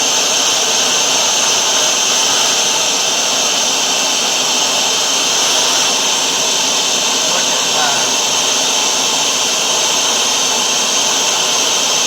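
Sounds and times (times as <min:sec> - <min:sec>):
carpet washer motor and suction: 0:00.0 - 0:12.0.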